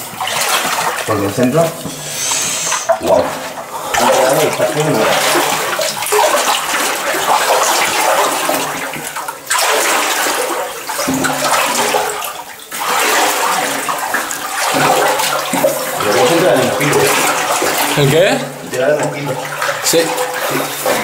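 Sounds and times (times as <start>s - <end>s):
water splashing around boots: 0.0s - 21.0s.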